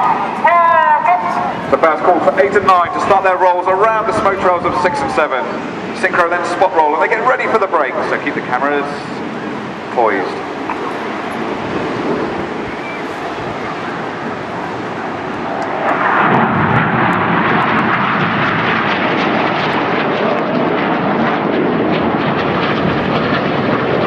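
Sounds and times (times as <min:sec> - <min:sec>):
jets flying past: 0:00.0 - 0:24.0.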